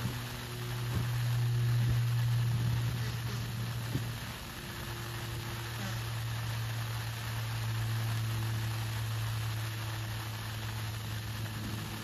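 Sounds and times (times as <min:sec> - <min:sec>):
hose water running into pool: 0:00.0 - 0:12.0
low hum: 0:00.0 - 0:12.0.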